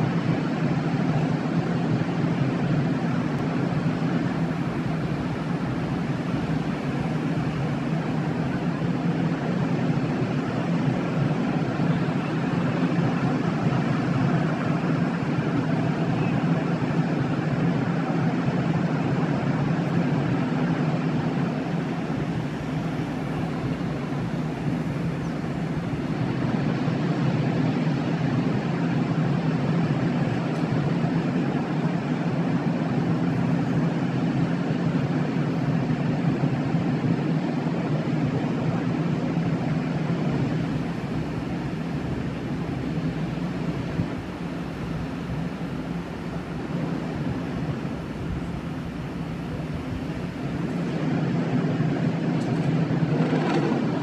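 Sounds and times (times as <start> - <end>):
distant city traffic rumble: 0.0 - 54.0.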